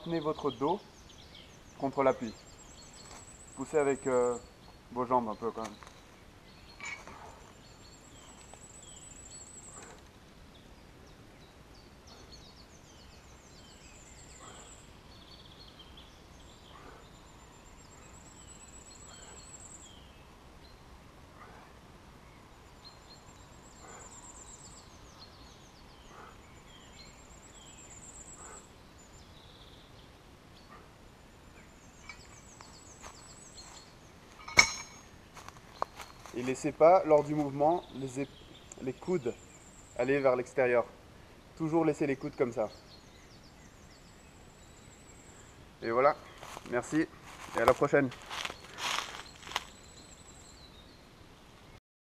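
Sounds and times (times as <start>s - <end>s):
quiet forest ambience: 0.0s - 51.8s.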